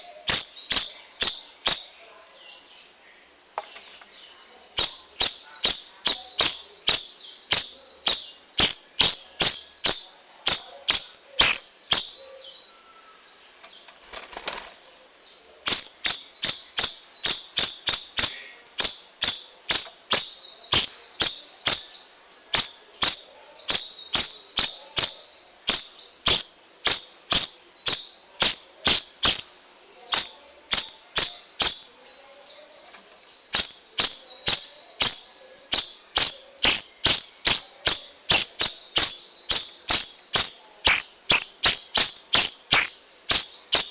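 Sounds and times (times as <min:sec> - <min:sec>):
songbird singing sharp high notes: 0:00.0 - 0:02.0, 0:04.7 - 0:12.9, 0:15.6 - 0:32.1, 0:33.1 - 0:43.9.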